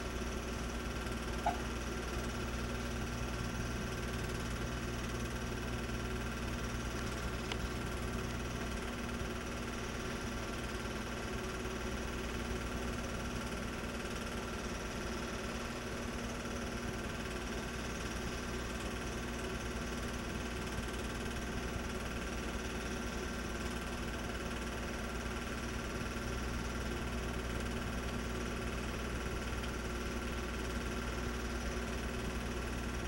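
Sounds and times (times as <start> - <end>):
movie projector whirring: 0.0 - 33.0.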